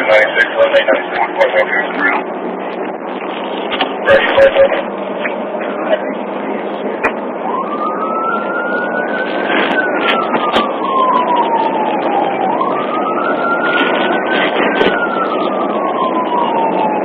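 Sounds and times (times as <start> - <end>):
engine and road noise: 0.0 - 17.0
police siren wailing: 0.0 - 17.0.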